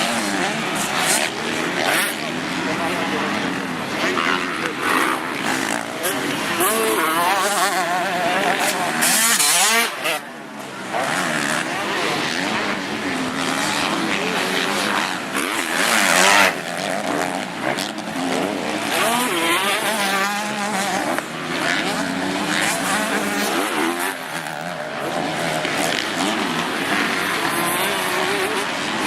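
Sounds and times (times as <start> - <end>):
motocross bikes revving: 0.0 - 29.0.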